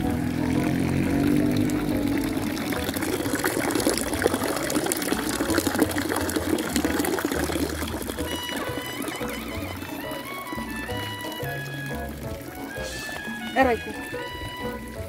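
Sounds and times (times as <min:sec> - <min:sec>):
fountain water splashing into pool: 0:00.0 - 0:15.0.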